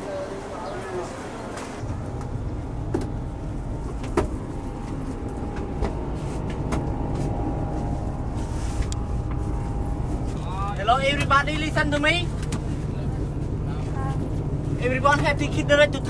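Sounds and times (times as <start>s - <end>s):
bus engine rumble: 0.0s - 16.0s
faint steady whine: 1.8s - 16.0s.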